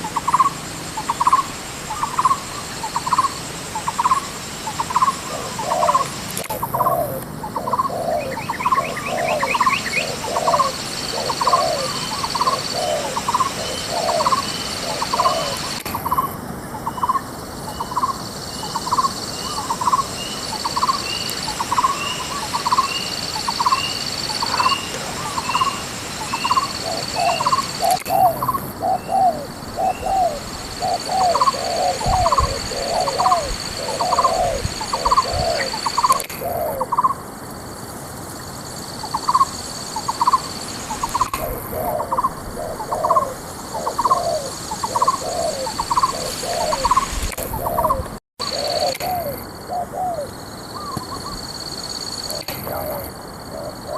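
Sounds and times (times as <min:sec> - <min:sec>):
doves cooing: 0:00.0 - 0:17.2, 0:17.8 - 0:37.2, 0:39.1 - 0:51.5, 0:52.2 - 0:53.9.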